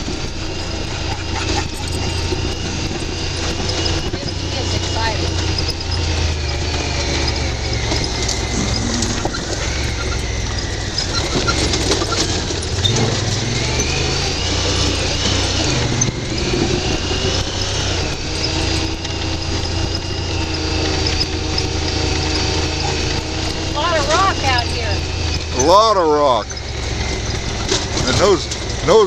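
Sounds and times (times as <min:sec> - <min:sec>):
utility vehicle engine running: 0:00.0 - 0:29.0.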